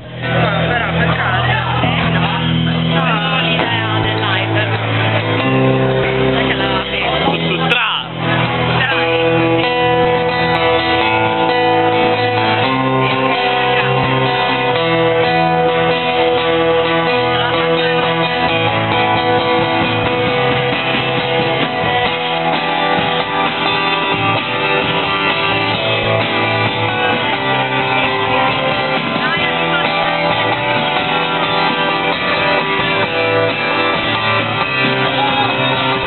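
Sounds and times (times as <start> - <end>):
acoustic guitars strumming: 0.0 - 36.0
electric guitar: 0.0 - 36.0.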